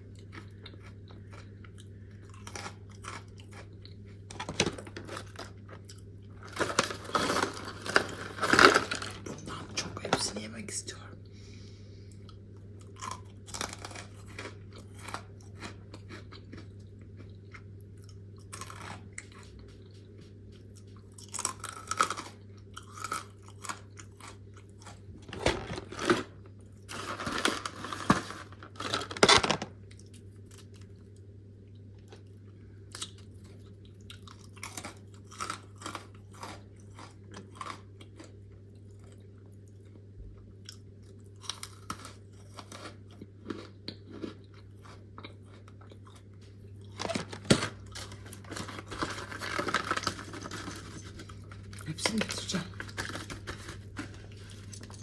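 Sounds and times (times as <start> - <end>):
person chewing crunchy food: 0.0 - 10.0, 11.5 - 51.9, 52.7 - 55.0
faint low hum: 0.0 - 55.0.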